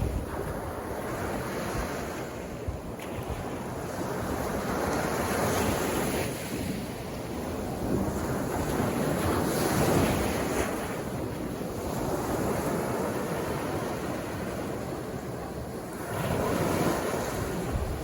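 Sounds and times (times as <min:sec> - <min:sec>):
sea waves breaking on beach: 0:00.0 - 0:18.0.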